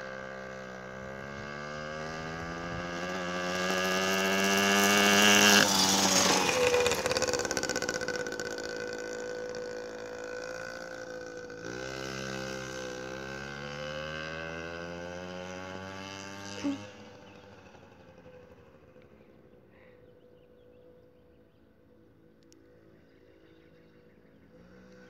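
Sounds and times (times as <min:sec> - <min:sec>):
two-stroke minibike engine revving: 0:00.0 - 0:19.9, 0:24.3 - 0:25.0.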